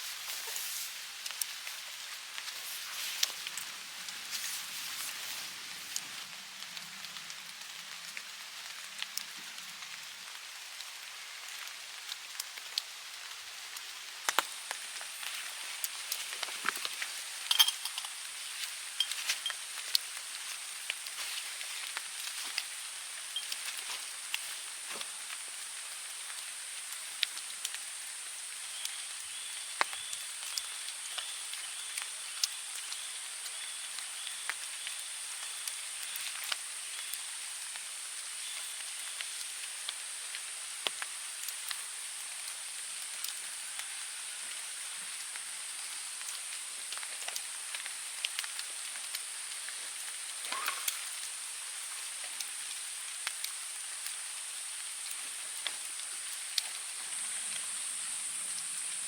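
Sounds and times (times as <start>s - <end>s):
steady high-pitched hiss: 0.0s - 59.0s.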